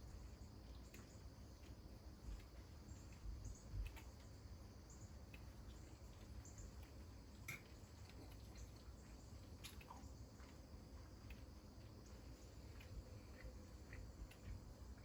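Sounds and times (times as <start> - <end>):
soft high ticks and chirps: 0.0 - 15.0.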